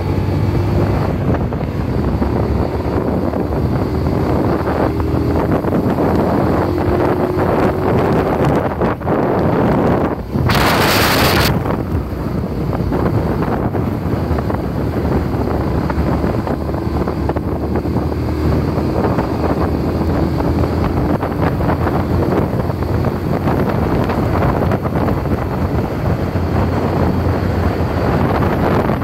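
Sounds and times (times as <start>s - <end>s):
motorcycle engine humming: 0.0s - 29.0s
wind rushing over microphone: 0.0s - 29.0s.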